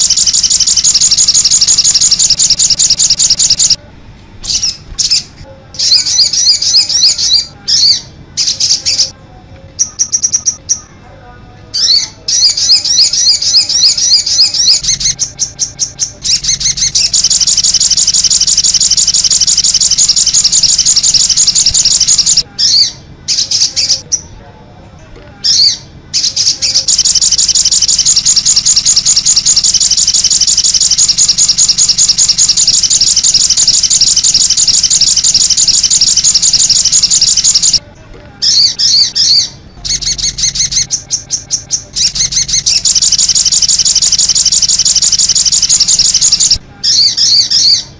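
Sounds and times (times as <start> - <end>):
bird singing fast high chirps: 0.0 - 3.8, 5.8 - 9.1, 9.8 - 10.8, 11.8 - 24.0, 25.5 - 37.8, 38.5 - 47.9.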